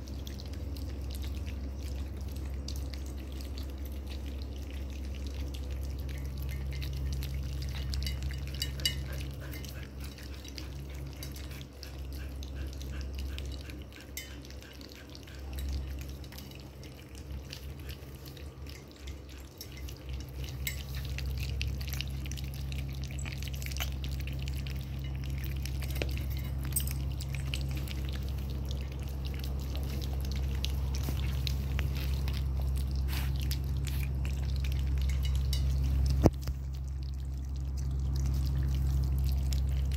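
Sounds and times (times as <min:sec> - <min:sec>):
puppies lapping from metal bowl: 0:00.0 - 0:39.9
steady low hum: 0:00.0 - 0:39.9.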